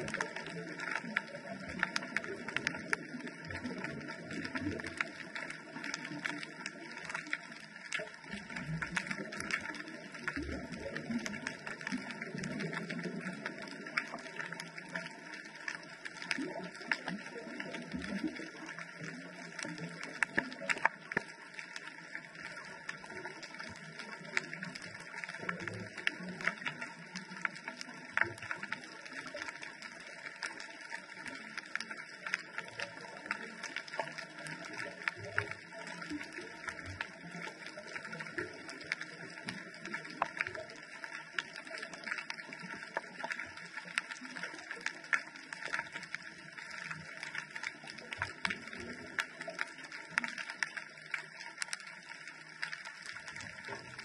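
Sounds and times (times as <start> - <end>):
small clicks and crackles: 0.0 - 54.0.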